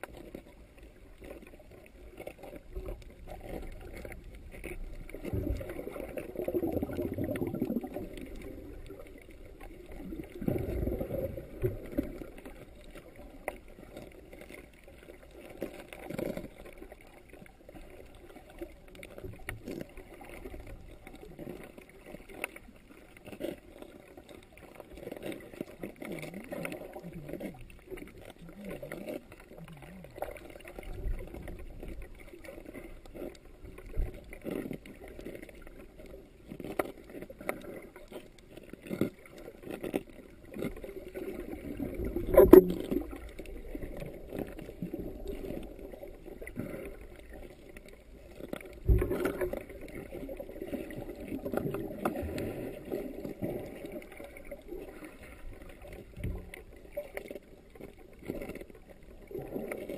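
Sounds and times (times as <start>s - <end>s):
underwater water wash: 0.0s - 59.9s.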